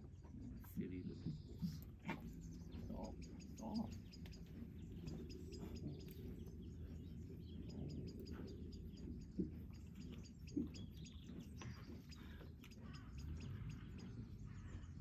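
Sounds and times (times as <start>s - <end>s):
low outdoor rumble: 0.0s - 15.0s
small birds chirping: 0.0s - 15.0s.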